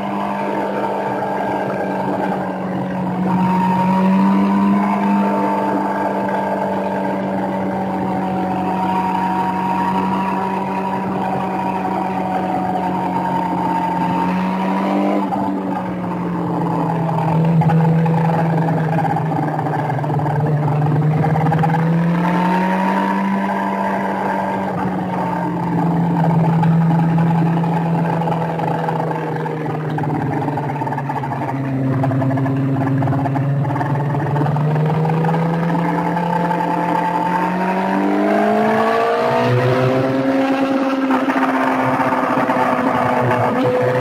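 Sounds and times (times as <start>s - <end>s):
motorcycle engine running hard: 0.0s - 44.0s.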